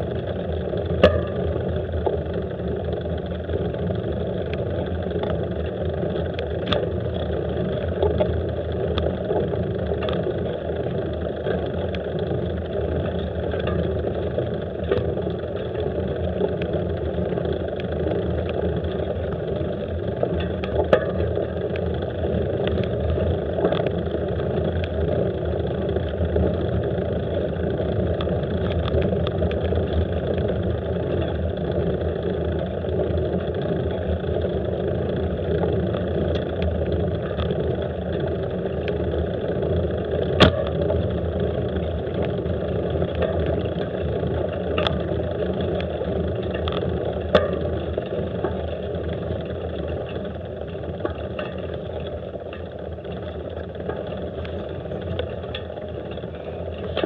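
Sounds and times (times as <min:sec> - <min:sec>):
vehicle engine and tyres on gravel: 0:00.0 - 0:57.0.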